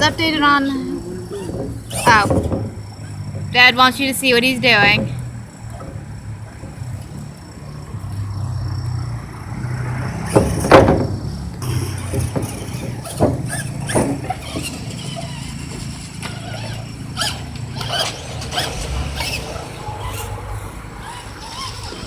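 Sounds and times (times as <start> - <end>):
knocks and clatter: 0.0 - 22.0
toy truck motor humming: 0.0 - 22.0.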